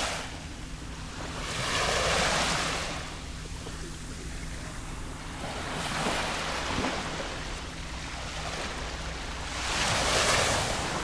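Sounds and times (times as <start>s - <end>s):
waves lapping on a sandy beach: 0.0s - 11.0s.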